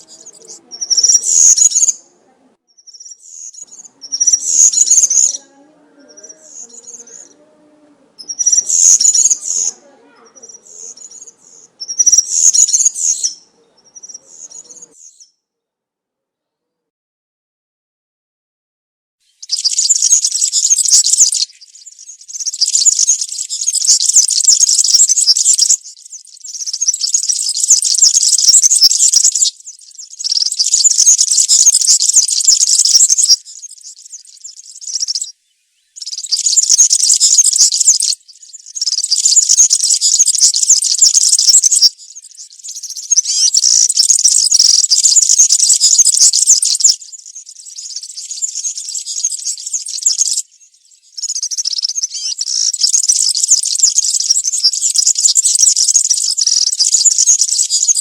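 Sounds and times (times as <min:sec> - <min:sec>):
small bird singing high song: 0:00.0 - 0:15.6, 0:19.2 - 0:58.0.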